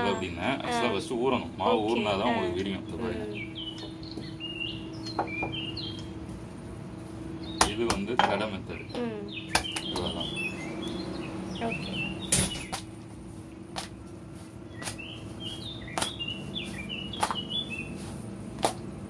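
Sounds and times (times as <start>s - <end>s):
birds chirping: 0.0s - 18.5s
low steady hum: 0.0s - 19.0s.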